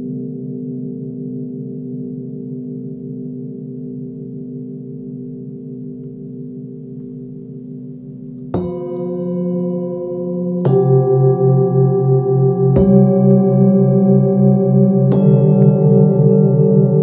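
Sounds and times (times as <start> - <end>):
singing bowls struck and ringing: 0.0 - 17.0.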